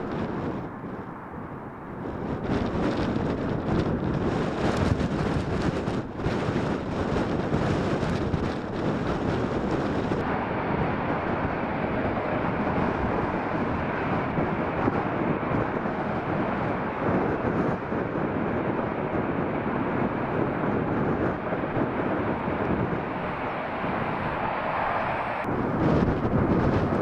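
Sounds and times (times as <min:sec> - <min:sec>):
gusty wind: 0:00.0 - 0:27.0
jet engines rumbling: 0:00.0 - 0:27.0.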